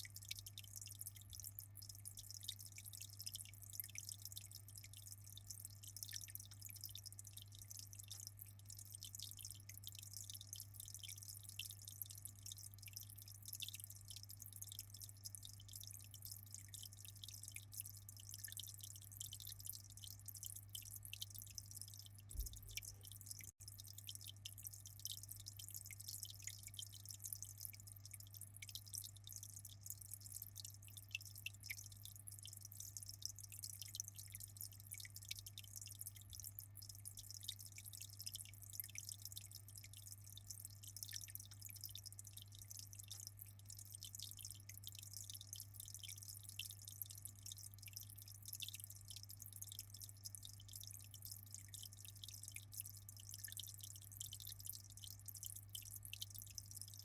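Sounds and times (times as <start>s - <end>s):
aquarium water dripping: 0.0s - 57.0s.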